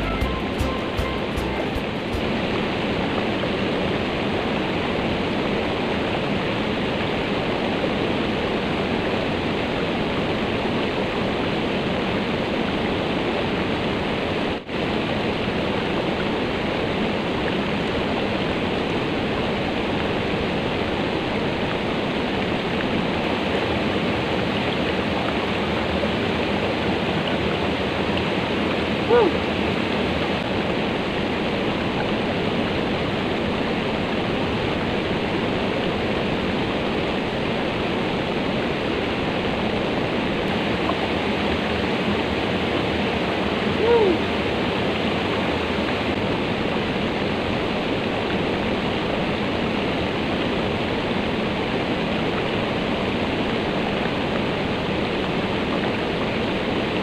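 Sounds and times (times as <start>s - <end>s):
rushing river water: 0.0s - 57.0s.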